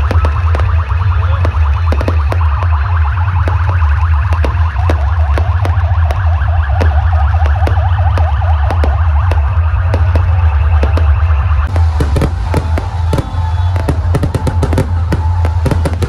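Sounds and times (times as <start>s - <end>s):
fireworks bangs: 0.0s - 16.0s
pulsing bass music: 0.0s - 16.0s
siren-like warble: 0.0s - 16.0s.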